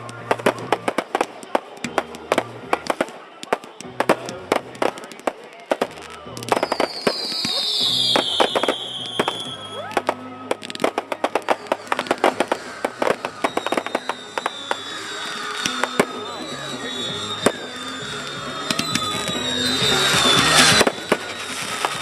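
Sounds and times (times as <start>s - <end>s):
fireworks crackling pops: 0.0s - 22.0s
fireworks whistling: 0.0s - 22.0s.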